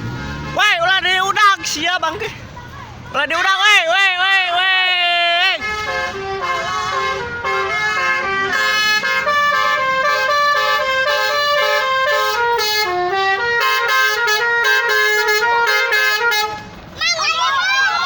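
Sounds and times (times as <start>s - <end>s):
bus musical horn playing a tune: 0.0s - 2.2s, 4.4s - 17.0s.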